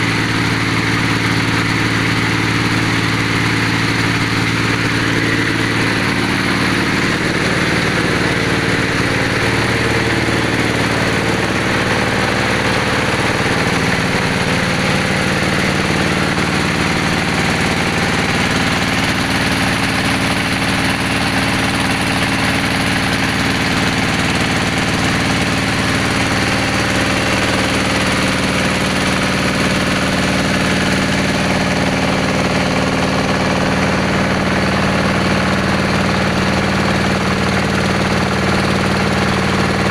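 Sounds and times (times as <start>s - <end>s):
drilling machine engine running: 0.0s - 39.9s.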